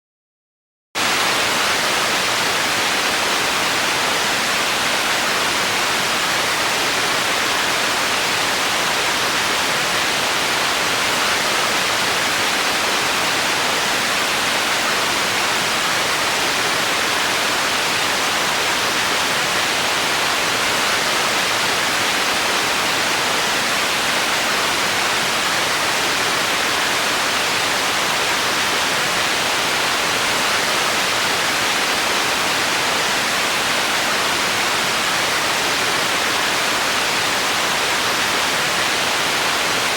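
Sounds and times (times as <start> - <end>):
television static hiss: 1.0 - 39.9.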